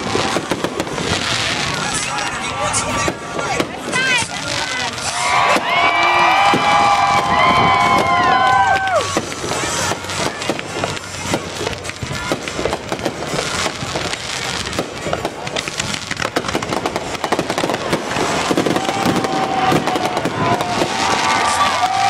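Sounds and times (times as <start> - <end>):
fireworks popping and crackling: 0.0 - 22.0.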